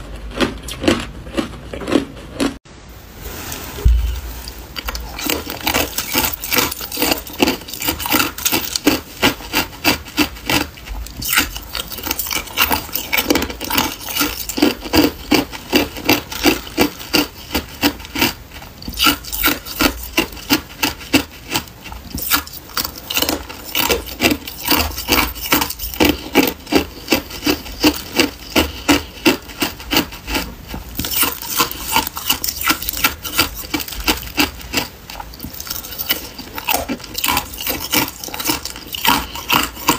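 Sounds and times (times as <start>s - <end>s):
ice cubes crunched by teeth: 4.9s - 30.4s, 31.0s - 39.9s.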